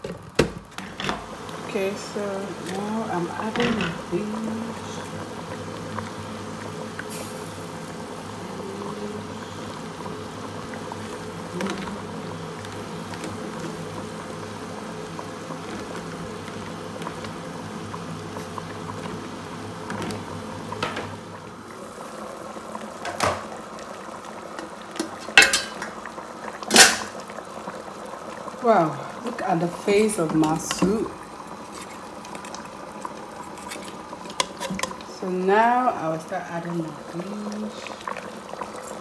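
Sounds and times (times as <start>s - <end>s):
soup boiling in a pot: 0.0s - 39.0s.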